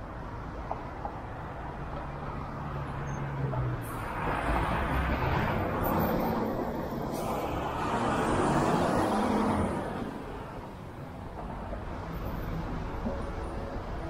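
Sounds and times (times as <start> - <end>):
passing vehicles rushing: 0.0 - 14.0.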